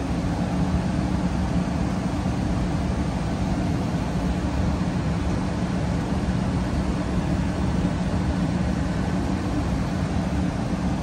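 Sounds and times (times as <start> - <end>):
gas furnace hum and rumble: 0.0 - 11.0.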